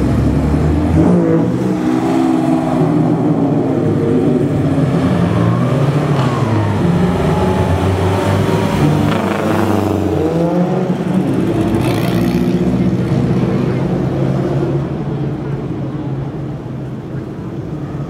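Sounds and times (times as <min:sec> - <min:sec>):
sports car engines revving: 0:00.0 - 0:17.7.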